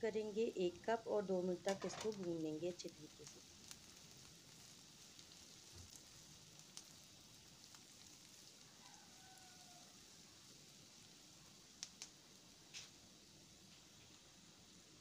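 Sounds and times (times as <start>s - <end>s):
vegetables sizzling in frying pan: 0.0s - 15.0s.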